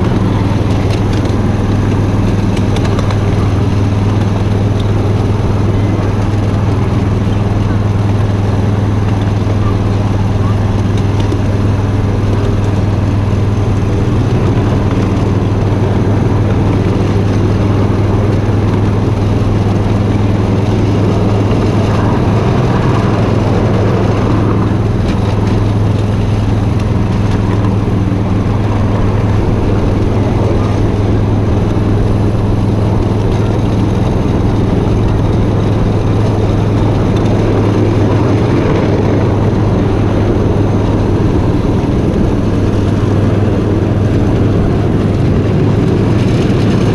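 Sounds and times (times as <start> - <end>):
miniature train locomotive drone: 0.0 - 46.9
train cars rumbling on rails: 0.0 - 46.9.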